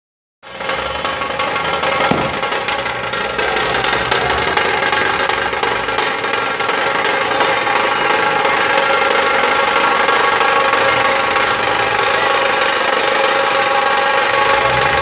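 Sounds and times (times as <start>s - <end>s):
dhol and tasha drums playing: 0.4s - 15.0s.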